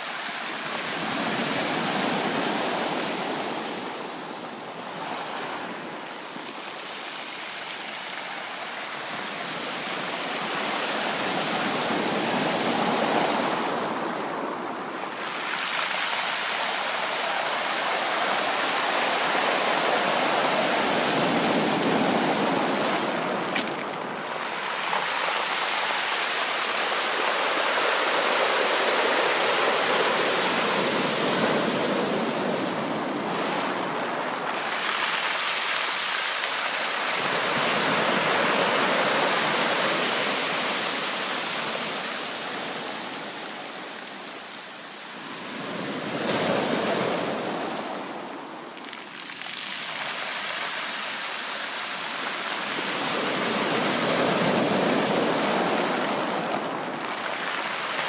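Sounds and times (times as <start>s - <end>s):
ocean waves washing onto beach: 0.0s - 58.0s.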